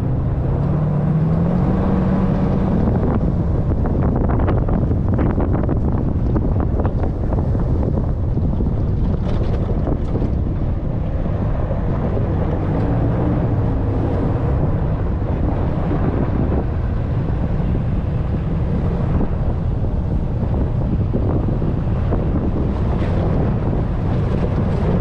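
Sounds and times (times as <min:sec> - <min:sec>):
truck engine rumble: 0:00.0 - 0:25.0
wind buffeting microphone: 0:00.0 - 0:25.0.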